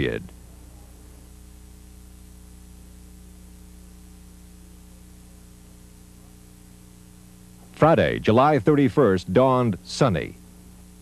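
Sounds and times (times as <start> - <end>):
electrical mains hum: 0.0 - 11.0
tape hiss: 0.0 - 11.0.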